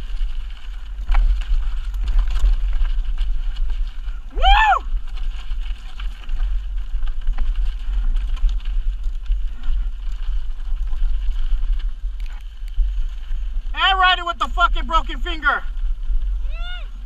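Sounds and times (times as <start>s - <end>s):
bike clicks and rattles: 0.0s - 13.7s
tyres crunching over stones: 0.0s - 13.8s
wind buffeting microphone: 0.0s - 17.0s.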